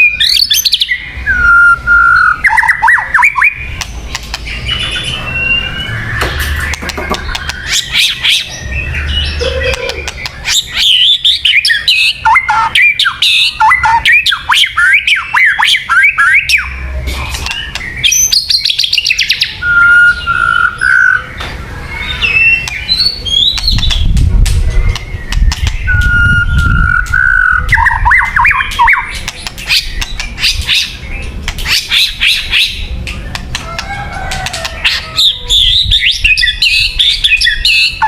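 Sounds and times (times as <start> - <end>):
bird singing varied song: 0.0 - 38.0.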